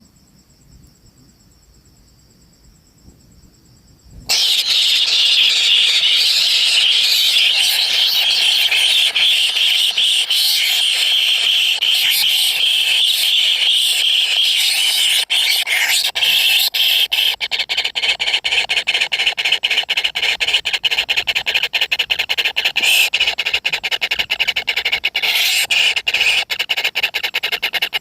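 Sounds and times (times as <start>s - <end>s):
chicks squealing: 4.3s - 28.0s.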